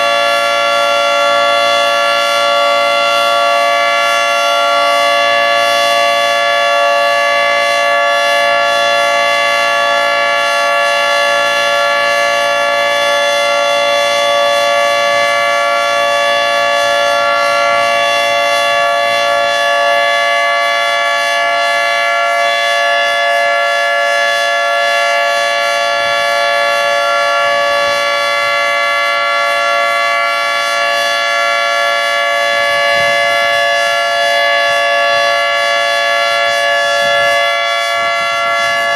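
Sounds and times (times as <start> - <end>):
steady warning siren: 0.0 - 38.9.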